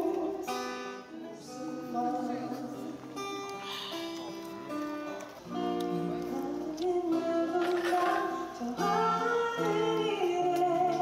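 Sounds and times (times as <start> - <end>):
person singing: 0.0 - 4.0, 5.5 - 11.0
strummed acoustic guitar: 0.0 - 11.0.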